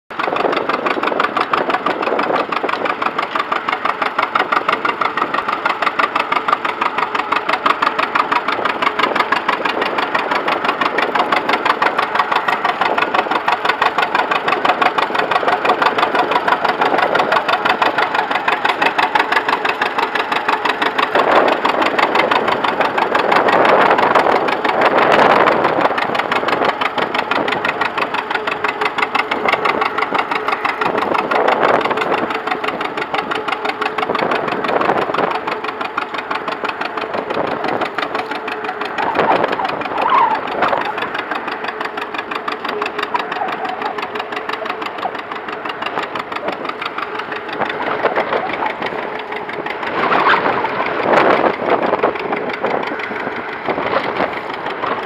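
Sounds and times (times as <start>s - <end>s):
tractor engine running under load: 0.1s - 55.0s.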